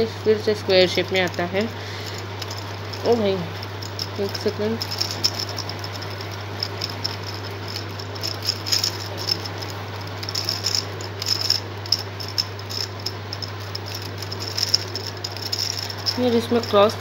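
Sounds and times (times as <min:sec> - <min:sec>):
low hum: 0:00.0 - 0:17.0
plastic gears clicking: 0:00.6 - 0:17.0.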